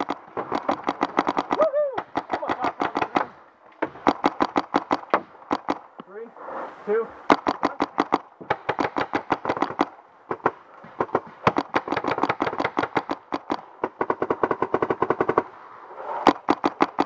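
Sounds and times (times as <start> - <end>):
paintball marker firing rapidly: 0.0 - 5.8, 7.3 - 15.5, 16.2 - 17.0.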